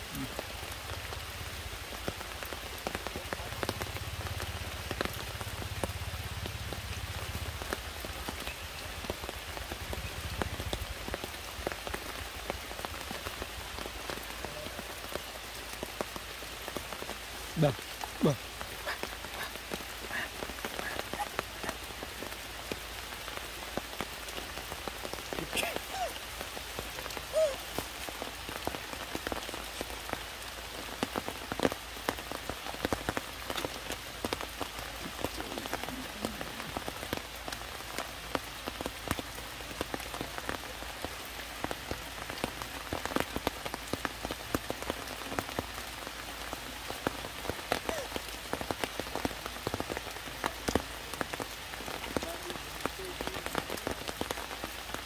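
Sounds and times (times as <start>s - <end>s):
rain hissing on leaves: 0.0s - 55.0s
sharp raindrop ticks: 0.0s - 55.0s.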